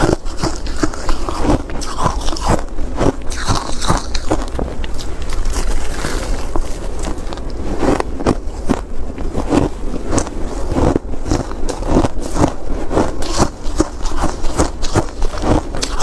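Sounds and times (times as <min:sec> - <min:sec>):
ice crunching being chewed: 0:00.0 - 0:16.0.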